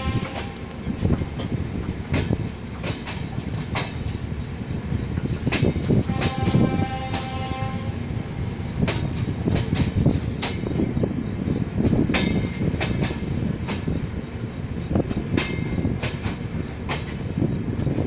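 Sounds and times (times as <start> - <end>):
train wheels rumbling on rail: 0.0 - 18.0
sharp track clacks: 0.1 - 4.4, 5.1 - 7.4, 8.6 - 18.0.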